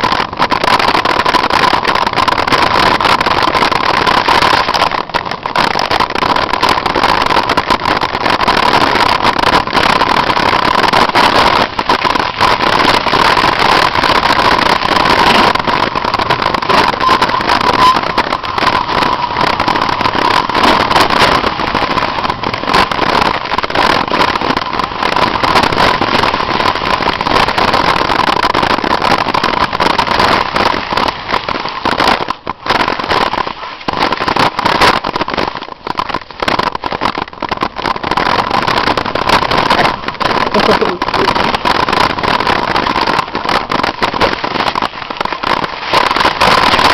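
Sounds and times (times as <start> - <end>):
bike rattling over bumps: 0.0 - 46.9
wind buffeting microphone: 0.0 - 46.9.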